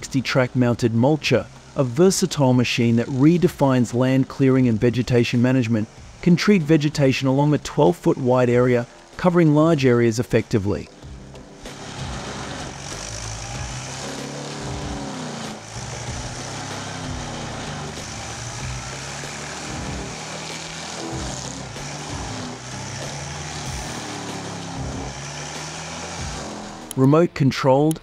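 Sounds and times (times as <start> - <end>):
forestry mulcher shredding log: 0.0 - 28.0.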